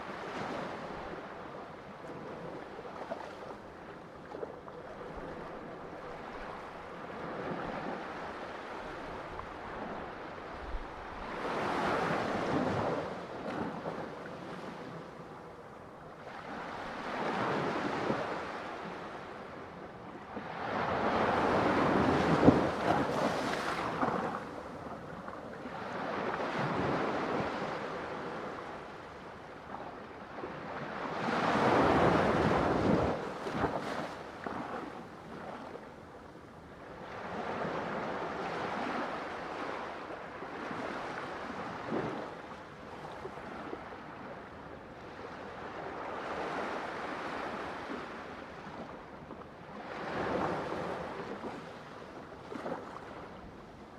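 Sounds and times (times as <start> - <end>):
ocean waves breaking on shore: 0.0 - 53.9.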